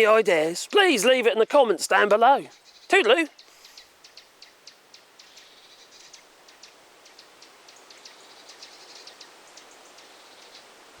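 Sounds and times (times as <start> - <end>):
songbird chirping: 0.0 - 11.0
steady background hiss: 0.0 - 11.0.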